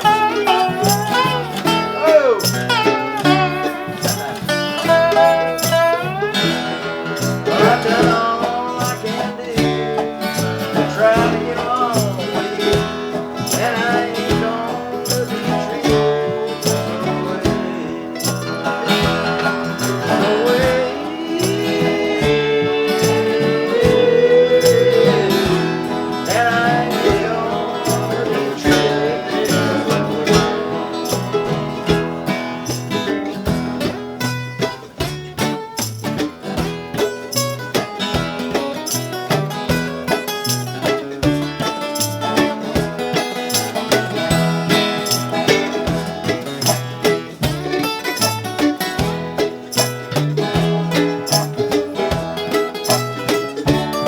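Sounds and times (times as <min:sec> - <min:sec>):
band playing folk-rock song: 0:00.0 - 0:54.0
sliding lead guitar line: 0:00.0 - 0:54.0.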